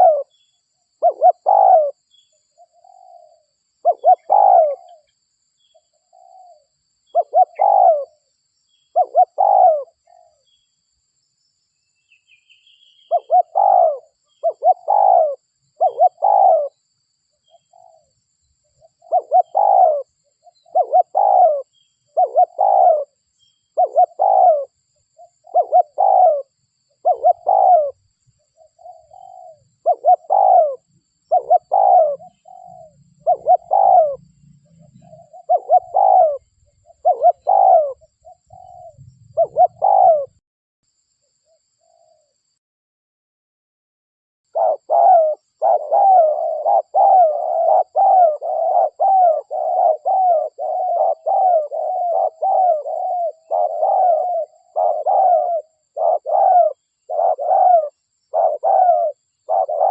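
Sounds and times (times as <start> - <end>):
dove cooing: 0.0 - 5.1, 5.7 - 10.4, 12.8 - 16.8, 17.4 - 18.2, 18.8 - 40.4, 44.5 - 59.9.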